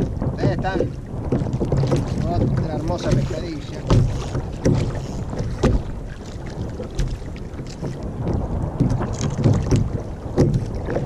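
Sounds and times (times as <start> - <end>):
sharp knocks: 0.0 - 5.9, 7.8 - 11.0
water slapping kayak hull: 0.0 - 11.0
wind buffeting microphone: 0.0 - 11.0.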